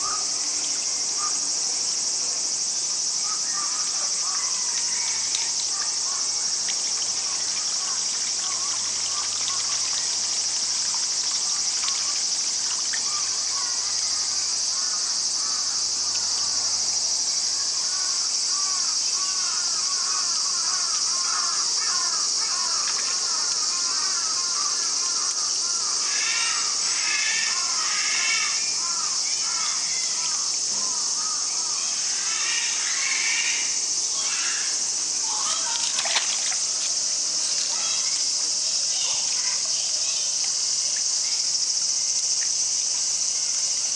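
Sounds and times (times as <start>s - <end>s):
high-pitched insect chorus: 0.0s - 43.9s
short insect chirps: 0.0s - 43.9s.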